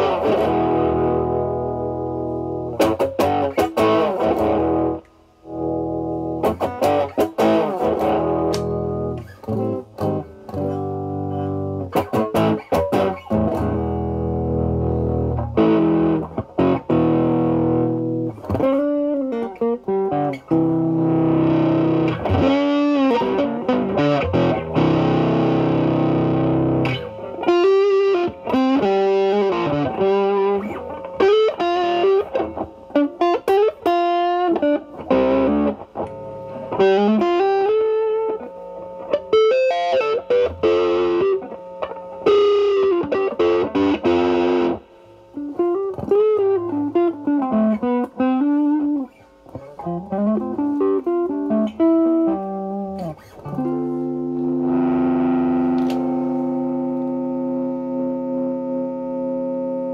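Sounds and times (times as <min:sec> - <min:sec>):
overdriven electric guitar: 0:00.0 - 0:59.9.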